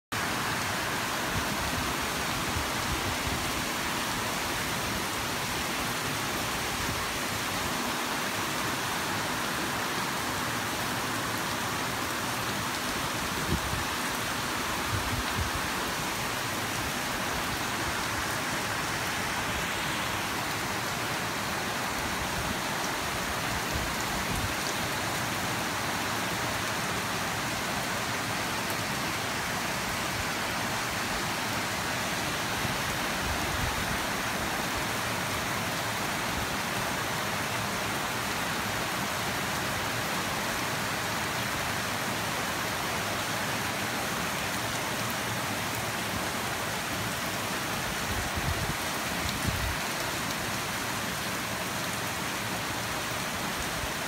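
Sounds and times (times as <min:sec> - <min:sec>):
rain falling: 0:00.1 - 0:54.0.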